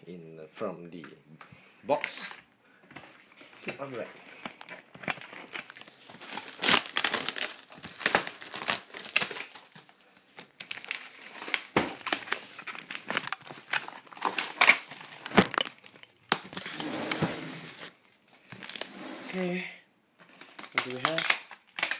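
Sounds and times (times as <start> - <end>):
plastic wrap crinkling: 1.9 - 18.9, 20.2 - 21.9.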